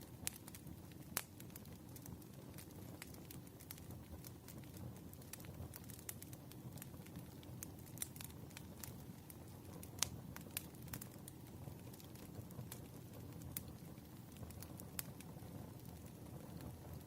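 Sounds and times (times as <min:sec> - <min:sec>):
low rumble of burning logs: 0:00.0 - 0:17.0
wood fire crackling: 0:00.0 - 0:17.0.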